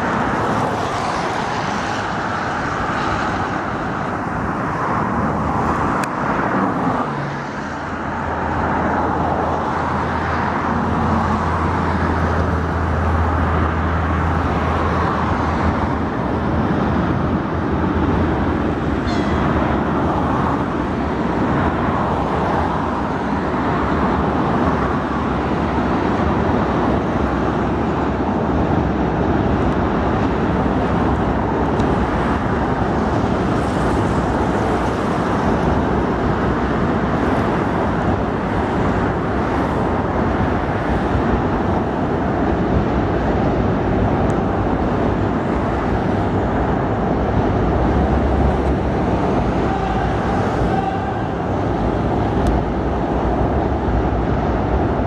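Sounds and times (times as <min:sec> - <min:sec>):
road traffic rushing: 0:00.0 - 0:55.0.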